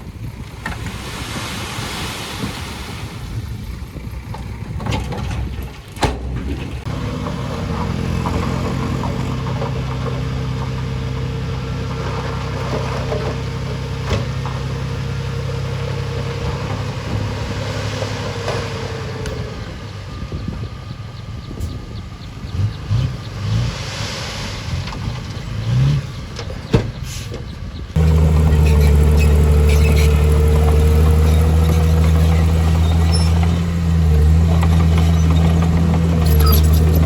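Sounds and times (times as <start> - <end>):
heavy diesel engine running: 3.9 - 25.6, 26.2 - 37.0.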